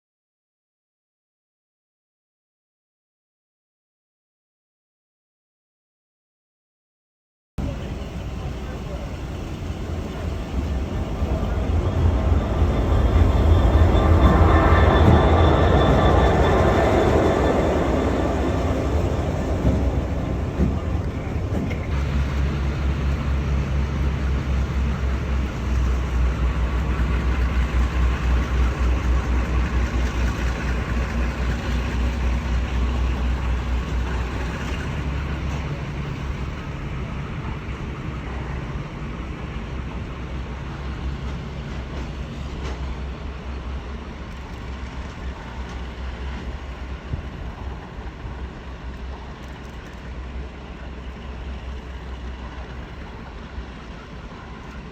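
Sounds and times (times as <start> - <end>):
diesel locomotive engine humming: 7.6 - 54.9.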